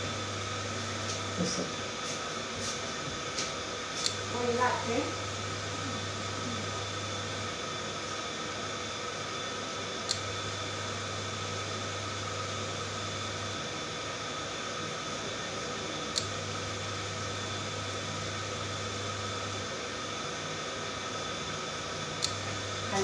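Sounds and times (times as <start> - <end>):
electric hob humming: 0.0 - 23.0.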